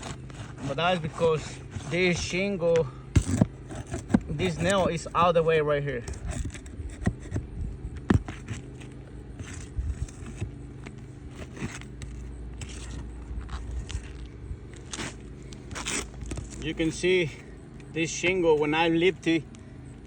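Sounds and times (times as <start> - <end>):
scrapes and clicks on roof shingles: 0.0 - 5.4, 6.0 - 16.8.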